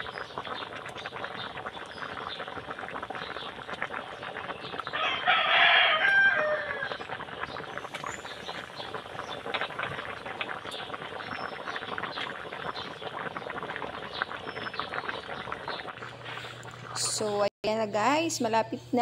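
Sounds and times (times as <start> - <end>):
broth boiling and bubbling: 0.0 - 19.0.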